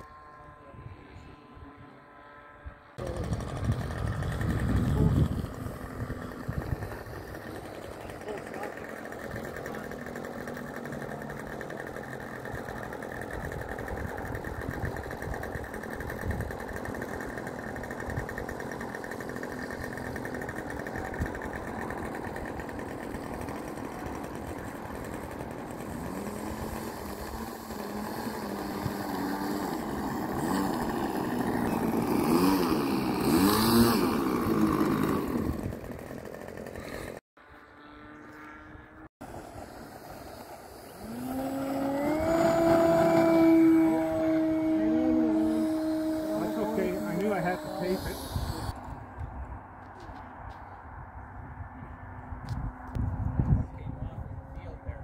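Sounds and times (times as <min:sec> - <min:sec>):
model airplane engine: 0:00.0 - 0:55.0.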